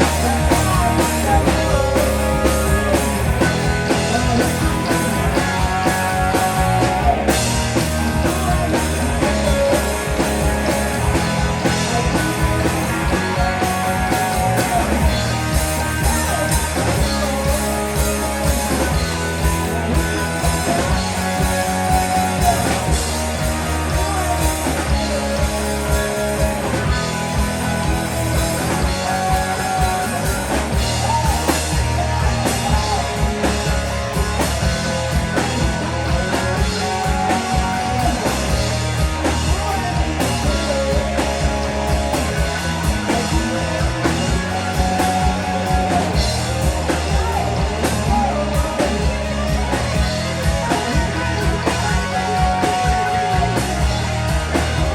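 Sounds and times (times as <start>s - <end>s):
rock band music: 0.0s - 54.9s.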